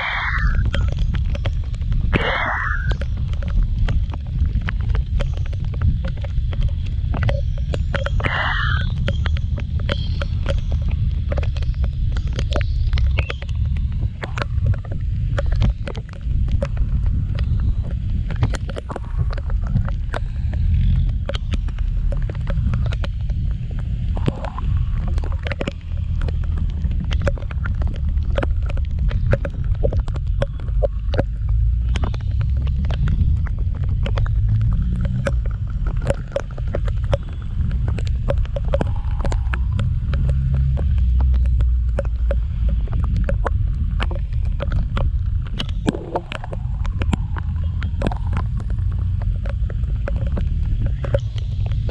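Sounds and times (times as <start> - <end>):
raindrops ticking on camera: 0.0 - 51.9
wind rumble on microphone: 0.0 - 51.9.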